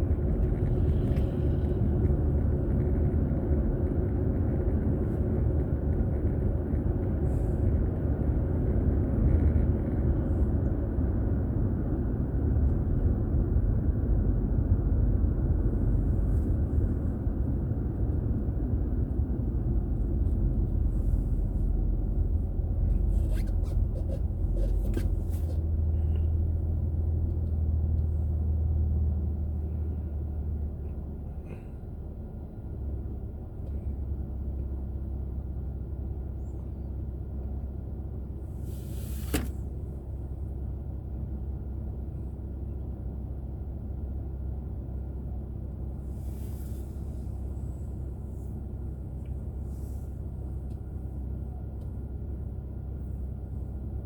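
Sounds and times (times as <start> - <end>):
car engine rumble and road noise: 0.0 - 54.0.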